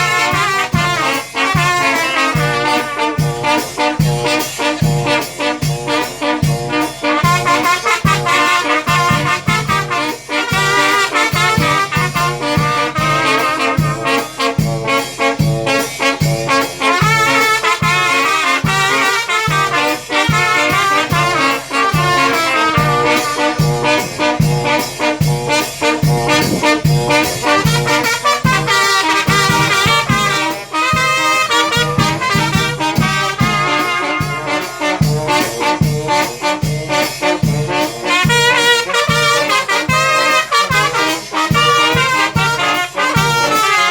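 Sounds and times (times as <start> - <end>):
brass band playing: 0.0 - 43.9.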